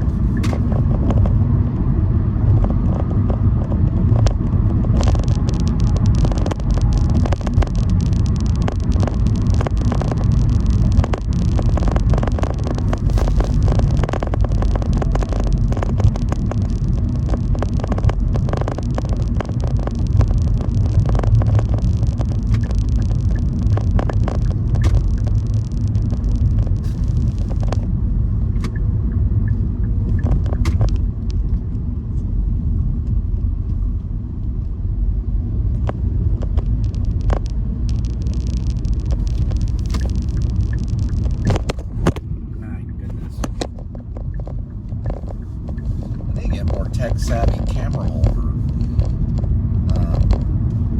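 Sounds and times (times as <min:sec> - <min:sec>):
car engine and road rumble: 0:00.0 - 0:50.9
small clicks and knocks: 0:02.5 - 0:27.9, 0:28.5 - 0:31.7, 0:35.8 - 0:42.3, 0:43.2 - 0:50.8.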